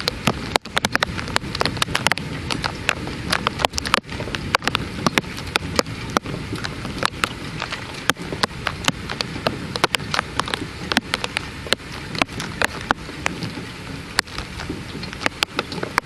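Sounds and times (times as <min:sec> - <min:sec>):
rain falling: 0:00.0 - 0:16.0
raindrops ticking on hard surface: 0:00.0 - 0:16.0.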